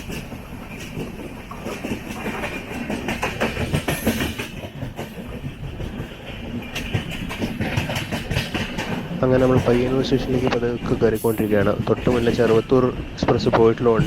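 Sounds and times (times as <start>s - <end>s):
train rumbling on track: 0.0s - 14.0s
train wheel clatter: 0.0s - 14.0s.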